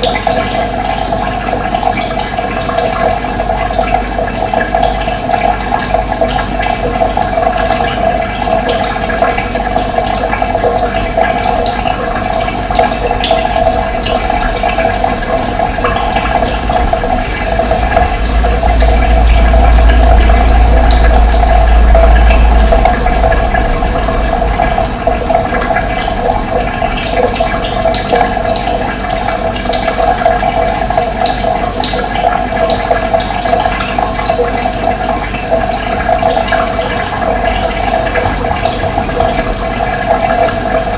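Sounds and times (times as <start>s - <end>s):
water rushing: 0.0s - 40.9s
deep rumble: 5.6s - 40.9s.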